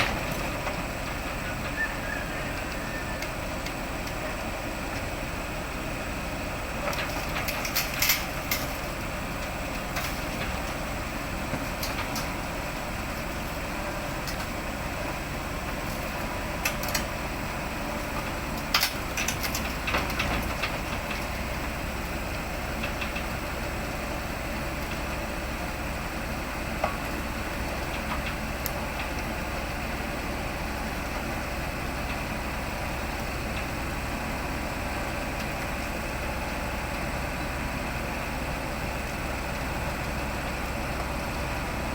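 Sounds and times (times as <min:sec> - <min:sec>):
heavy equipment engine idling: 0:00.0 - 0:41.9.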